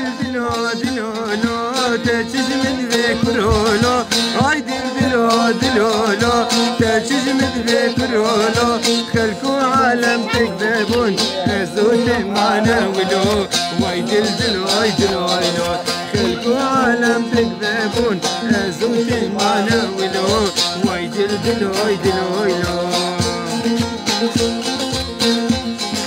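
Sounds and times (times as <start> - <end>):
long-necked lute strummed: 0.0 - 26.0
man singing: 0.0 - 26.0.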